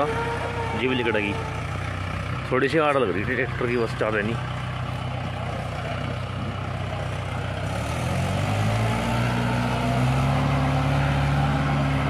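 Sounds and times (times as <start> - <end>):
tractor diesel engine labouring: 0.0 - 12.0.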